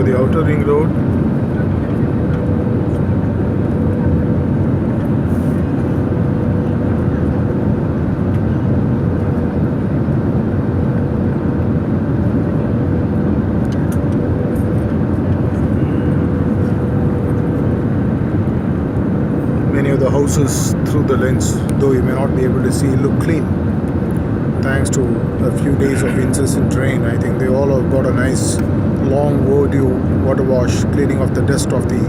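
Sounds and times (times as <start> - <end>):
airliner cabin engine roar: 0.0 - 32.0.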